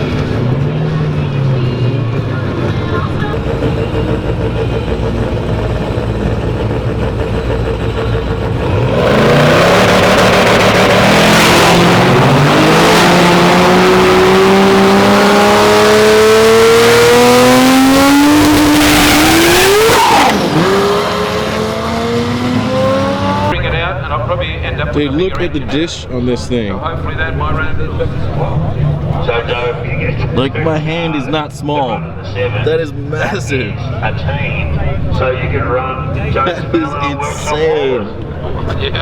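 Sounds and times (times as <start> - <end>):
drag racing car engine: 0.0 - 39.0.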